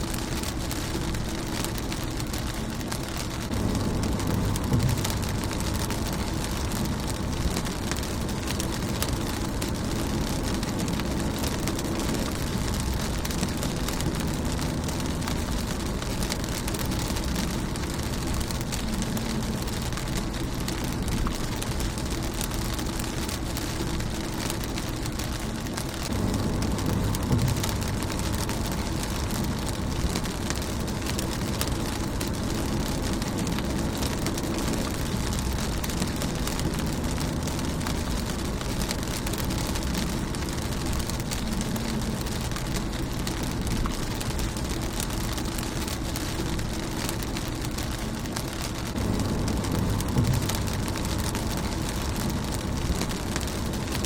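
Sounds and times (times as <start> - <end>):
low rumble: 0.0 - 54.0
rain on car windshield: 0.0 - 54.0.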